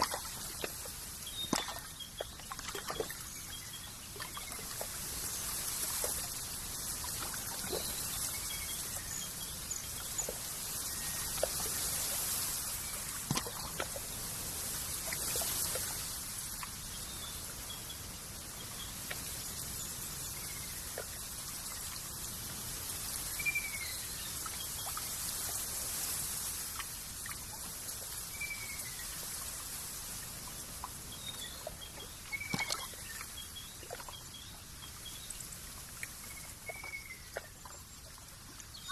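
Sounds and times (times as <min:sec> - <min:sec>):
water trickling: 0:00.0 - 0:17.8, 0:18.4 - 0:38.9.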